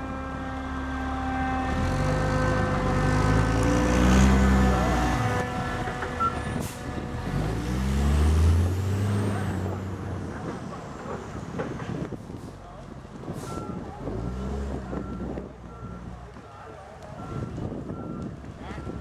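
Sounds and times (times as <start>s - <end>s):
truck engine revving: 0.0s - 16.4s.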